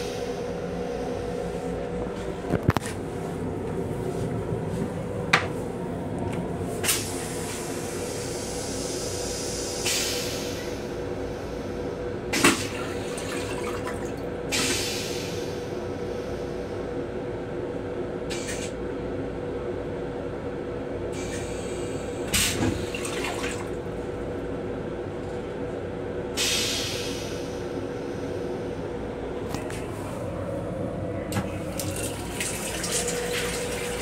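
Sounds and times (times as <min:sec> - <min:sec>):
electric railcar hum: 0:00.0 - 0:34.0.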